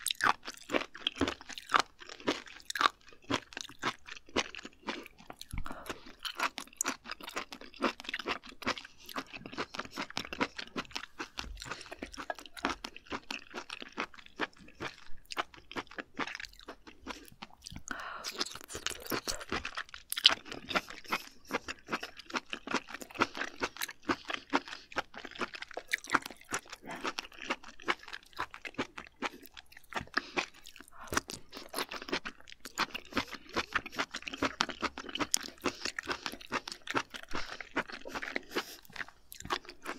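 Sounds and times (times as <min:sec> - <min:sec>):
wet chewing clicks and smacks: 0:00.0 - 0:39.9.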